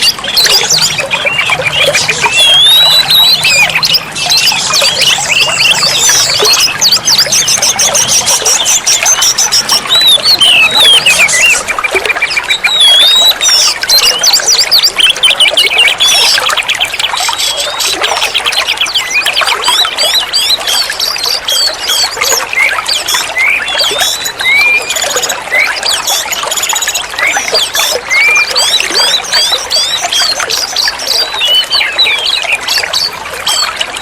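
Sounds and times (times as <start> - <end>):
bird singing whistles and trills: 0.0 - 34.0.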